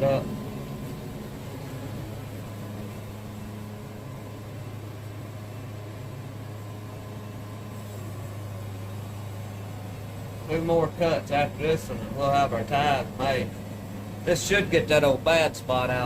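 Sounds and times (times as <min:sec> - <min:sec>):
band sawmill humming: 0:00.0 - 0:16.0.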